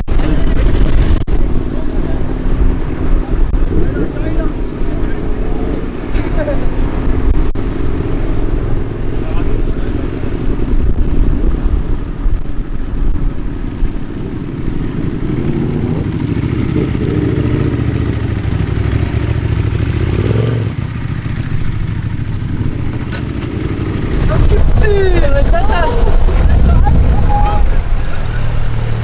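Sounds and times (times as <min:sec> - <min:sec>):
engine revving: 0:00.0 - 0:29.0
vehicle engines running: 0:00.0 - 0:29.0.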